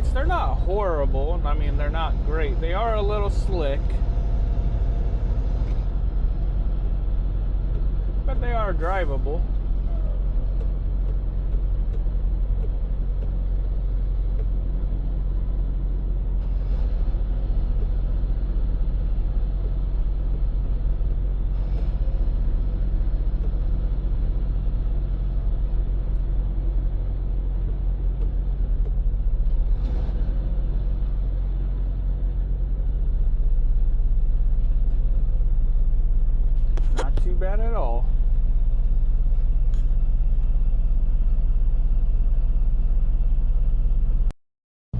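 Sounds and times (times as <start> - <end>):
truck diesel engine drone: 0.0 - 44.3.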